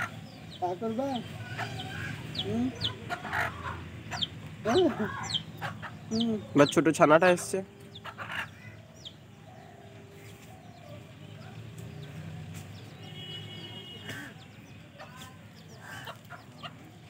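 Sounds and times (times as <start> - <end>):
chickens clucking: 0.0 - 11.1, 14.1 - 17.0
small birds chirping: 0.0 - 17.0.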